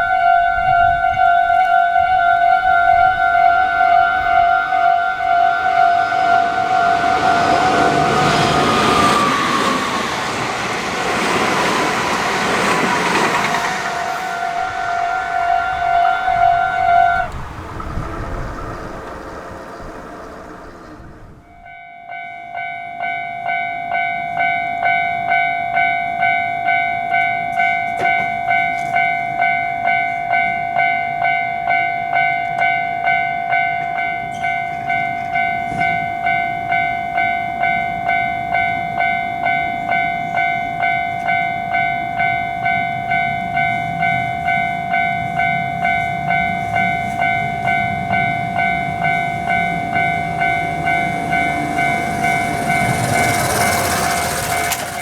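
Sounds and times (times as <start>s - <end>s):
level crossing warning bell: 0.0s - 20.6s, 21.4s - 55.0s
train low rumble: 0.0s - 55.0s.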